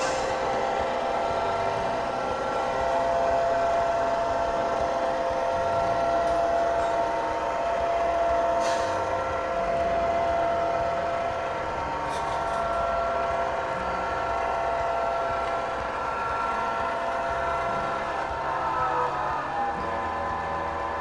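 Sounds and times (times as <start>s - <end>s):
model diesel locomotive humming: 0.0s - 21.0s.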